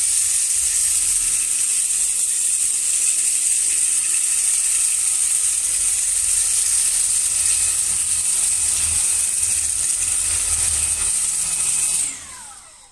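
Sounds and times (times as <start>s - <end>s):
rice grains rattling in vacuum: 0.0s - 12.2s
vacuum cleaner whine: 0.0s - 12.9s.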